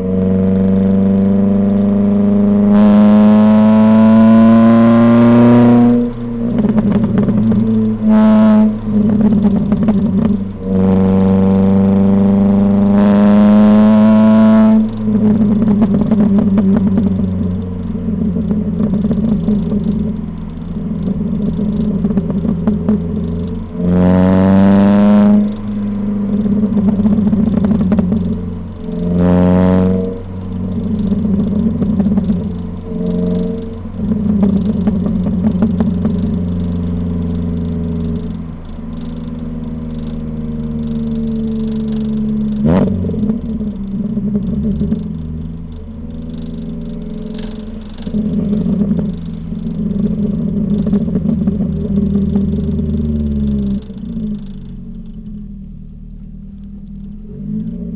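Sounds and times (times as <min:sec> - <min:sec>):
car engine revving: 0:00.0 - 0:57.9
exhaust burbling and crackling: 0:00.0 - 0:57.9.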